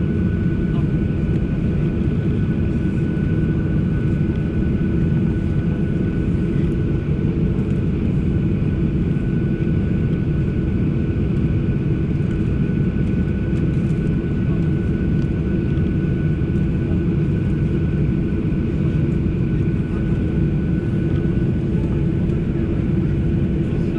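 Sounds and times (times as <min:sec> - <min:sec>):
jet engines in cabin: 0:00.0 - 0:23.9.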